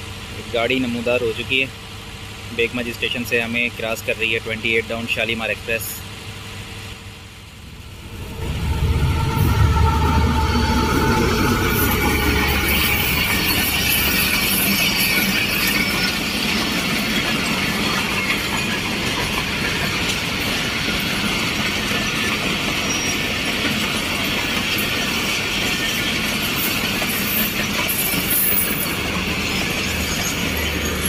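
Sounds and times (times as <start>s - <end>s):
train passing at speed: 0.0s - 31.0s
train wheels on rails: 0.0s - 31.0s.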